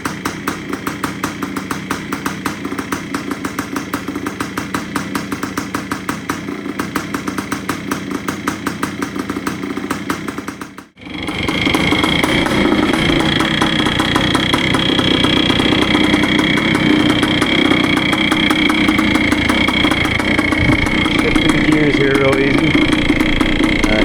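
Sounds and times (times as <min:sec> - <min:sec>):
two-stroke engine idling: 0:00.0 - 0:24.0.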